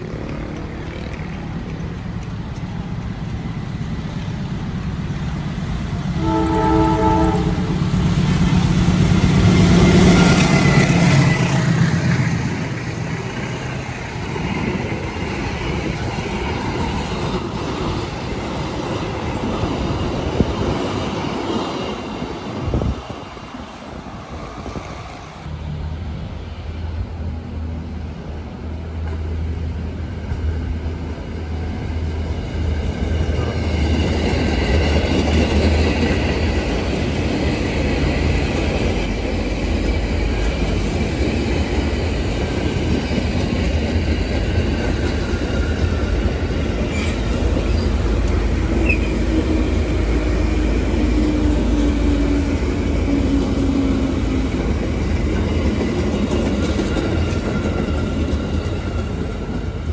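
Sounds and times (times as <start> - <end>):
train low hum: 0.0 - 59.9
wheels rumbling on rails: 0.0 - 59.9.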